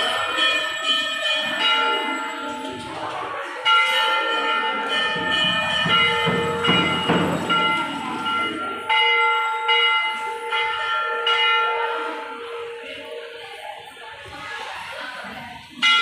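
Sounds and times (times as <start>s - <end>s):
temple bell ringing: 0.0s - 16.0s.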